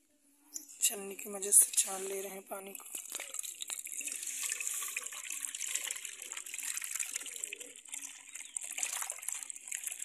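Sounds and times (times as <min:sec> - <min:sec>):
liquid pouring into metal bowl: 0:01.1 - 0:10.0.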